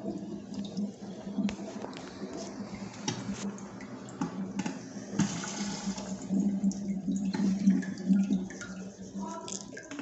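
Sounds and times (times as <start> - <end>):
water running in toilet cistern: 0.0 - 10.0.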